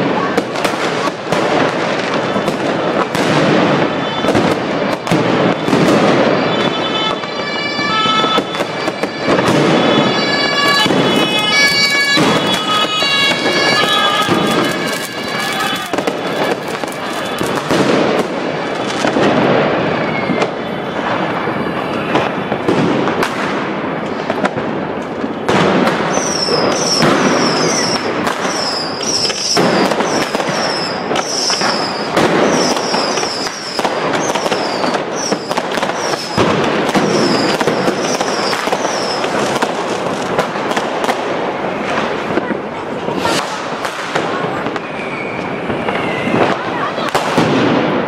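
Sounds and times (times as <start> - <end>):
fireworks banging and crackling: 0.0 - 48.0.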